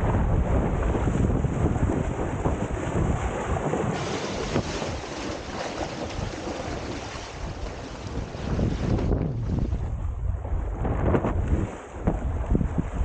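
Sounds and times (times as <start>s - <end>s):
water rushing and splashing: 0.0s - 13.0s
wind buffeting microphone: 0.0s - 13.0s.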